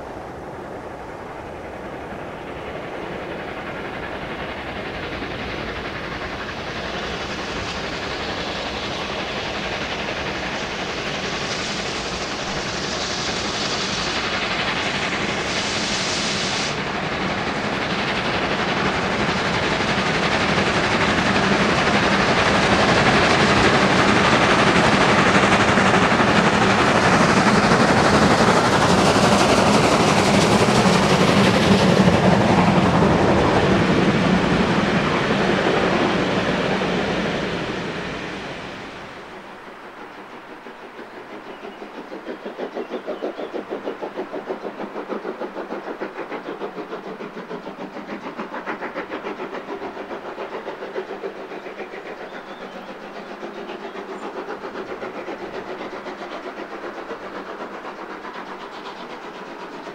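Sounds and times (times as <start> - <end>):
train running on rails: 0.0 - 59.9.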